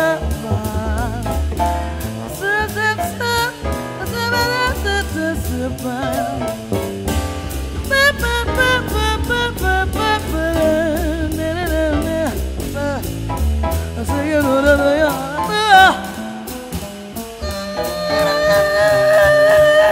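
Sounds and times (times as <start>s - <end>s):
swing jazz band: 0.0s - 19.9s.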